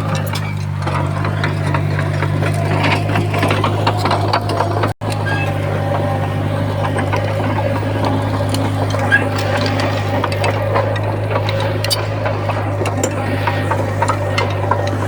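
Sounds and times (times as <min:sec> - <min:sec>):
bulldozer diesel engine running: 0:00.0 - 0:15.0
clanking tracks and stone: 0:00.0 - 0:15.0.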